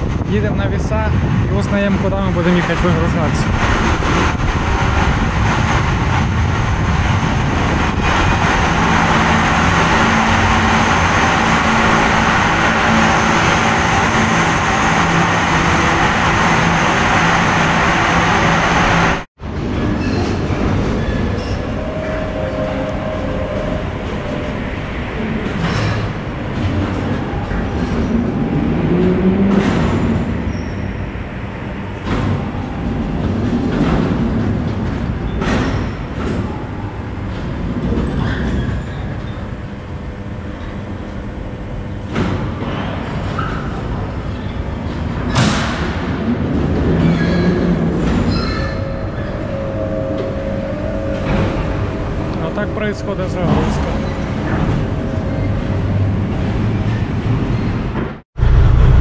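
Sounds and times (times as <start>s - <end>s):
industrial rumble: 0.0s - 59.0s.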